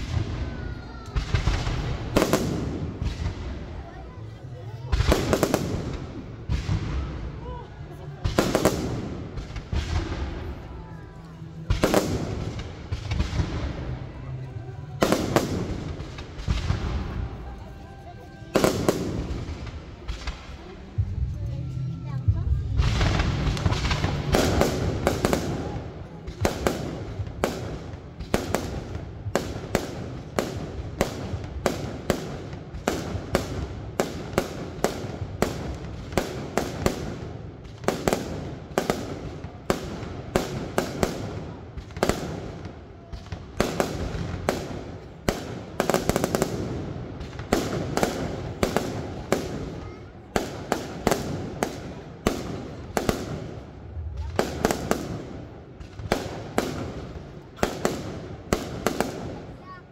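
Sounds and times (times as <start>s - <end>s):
fireworks cracking: 0.0s - 59.9s.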